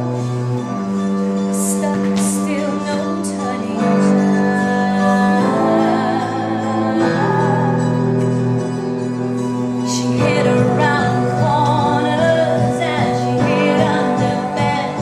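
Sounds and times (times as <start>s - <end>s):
slow music of held chords: 0.0s - 15.0s
person singing: 1.5s - 9.0s, 9.8s - 15.0s.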